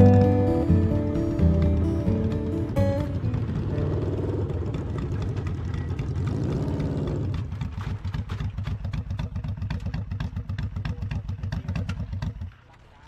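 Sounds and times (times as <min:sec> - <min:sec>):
motorcycle engine revving: 0:00.0 - 0:12.6.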